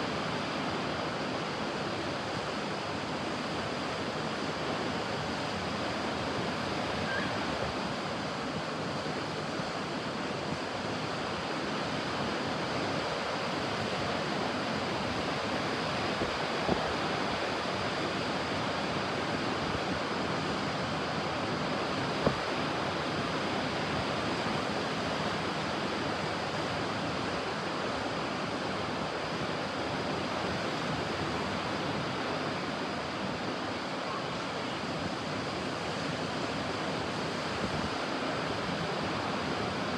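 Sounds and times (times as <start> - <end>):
ocean surf on a beach: 0.0 - 39.9.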